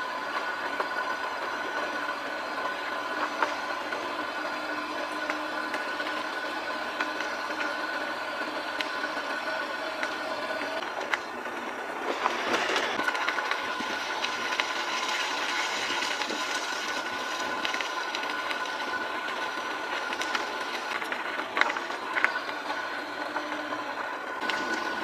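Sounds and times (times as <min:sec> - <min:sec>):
steady high whine: 0:00.0 - 0:25.0
tyre and road noise: 0:00.0 - 0:25.0.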